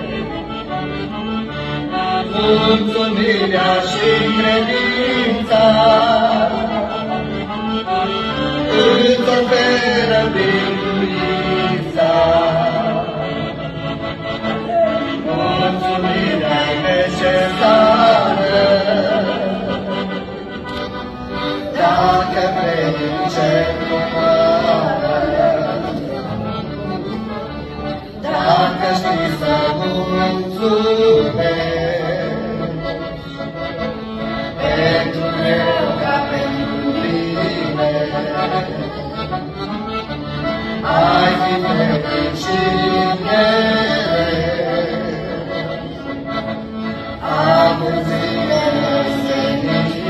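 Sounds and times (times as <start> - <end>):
accordion melody: 0.0 - 50.0
steady accompaniment: 0.0 - 50.0.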